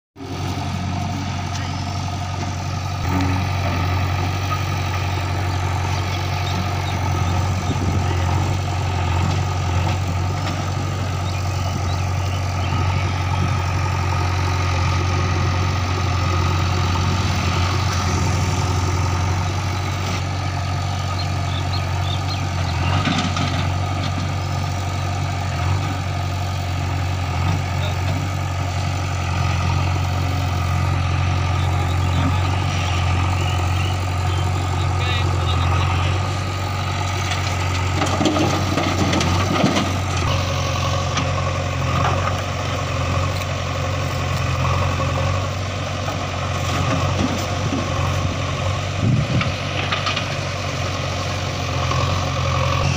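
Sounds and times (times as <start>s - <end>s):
diesel engine humming: 0.2s - 52.9s.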